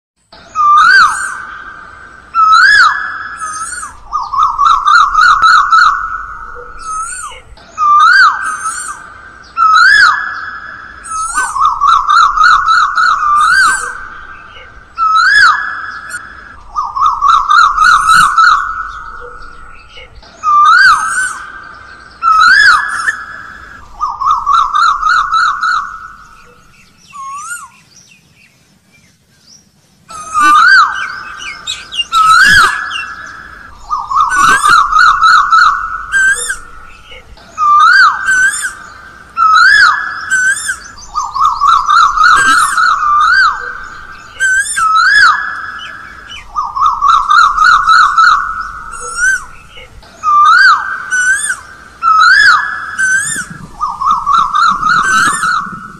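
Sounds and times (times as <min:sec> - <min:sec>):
bird calling rising whistles: 0:00.4 - 0:28.0, 0:30.1 - 0:55.9.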